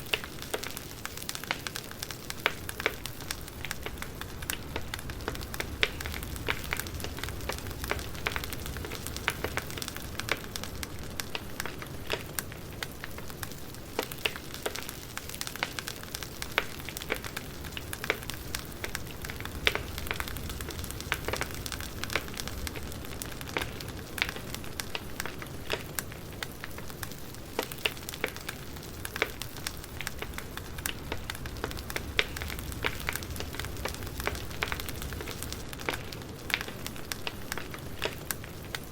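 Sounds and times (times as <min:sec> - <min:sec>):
low rush of fire: 0:00.0 - 0:38.9
wood crackling and popping: 0:00.0 - 0:38.9.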